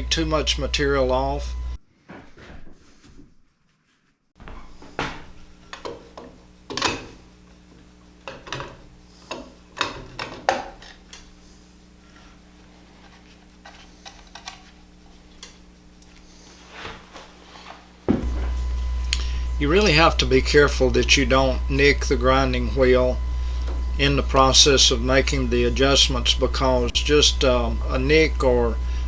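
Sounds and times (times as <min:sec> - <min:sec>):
low electrical hum: 0:00.0 - 0:01.8, 0:04.4 - 0:29.0.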